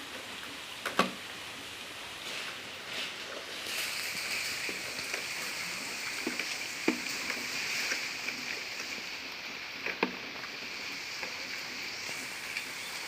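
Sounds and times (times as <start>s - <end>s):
rain falling: 0.0s - 13.0s
raindrops tapping nearby: 0.0s - 13.0s.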